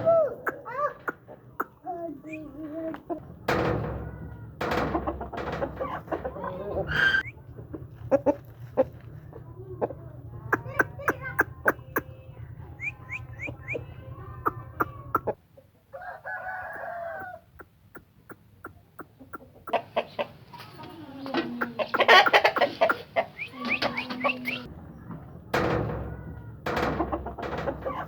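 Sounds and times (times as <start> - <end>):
chickens clucking and calling: 0.0 - 28.0.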